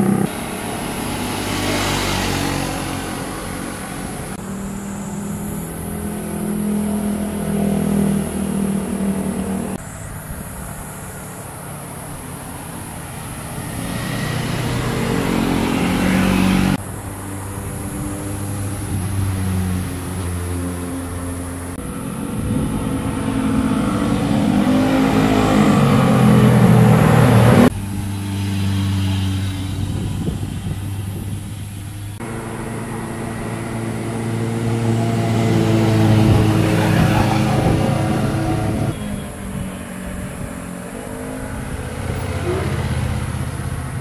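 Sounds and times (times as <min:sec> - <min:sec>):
motorcycles riding past: 0:00.0 - 0:44.0.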